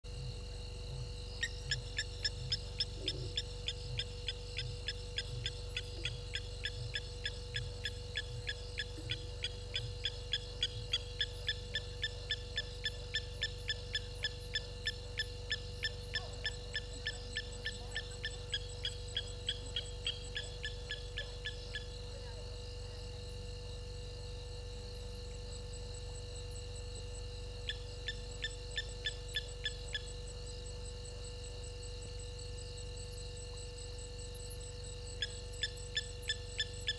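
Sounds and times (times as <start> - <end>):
steady hum: 0.0 - 36.9
night animal whistling calls: 1.2 - 23.0, 27.6 - 36.9.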